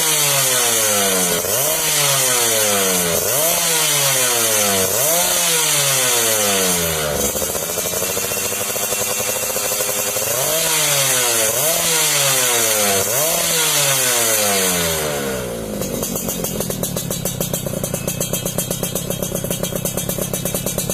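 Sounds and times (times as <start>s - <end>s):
two-stroke motorcycle engine revving: 0.0s - 20.9s.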